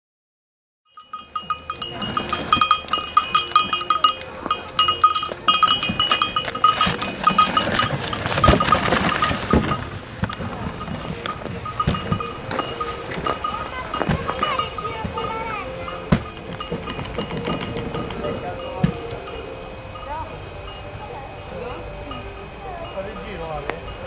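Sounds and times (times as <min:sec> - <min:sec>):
harness bell jingling: 0:00.9 - 0:24.0
sleigh runners scraping on snow: 0:01.0 - 0:24.0.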